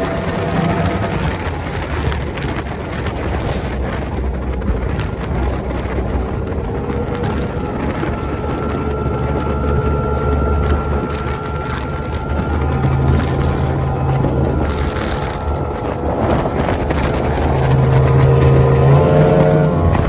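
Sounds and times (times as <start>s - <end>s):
powerboat engine droning: 0.0s - 20.0s
rushing water: 0.0s - 20.0s
rushing wind: 0.0s - 20.0s
steady high whine: 0.0s - 20.0s.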